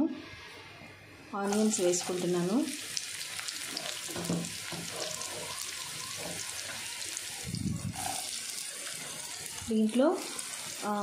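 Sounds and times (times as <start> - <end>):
onions sizzling in hot oil: 1.4 - 11.0.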